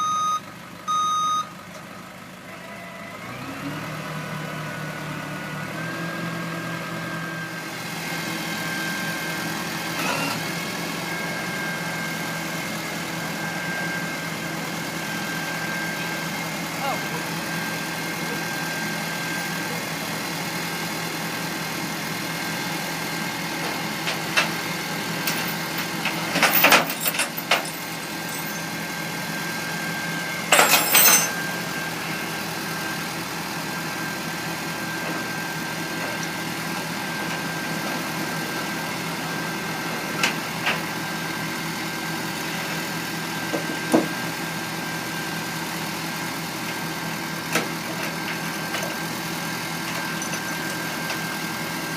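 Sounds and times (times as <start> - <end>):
truck engine idling: 0.0 - 51.9.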